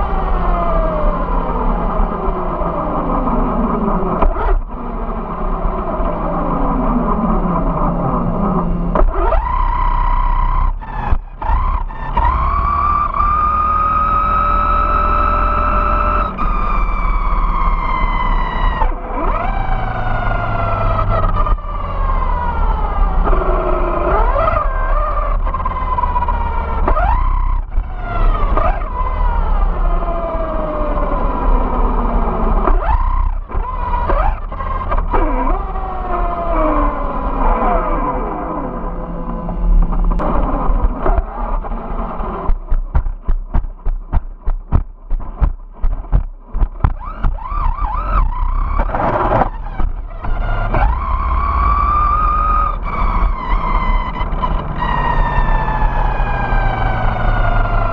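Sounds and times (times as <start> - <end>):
electric motor and gears whining: 0.0 - 57.9
tyres rumbling on asphalt: 0.0 - 57.9.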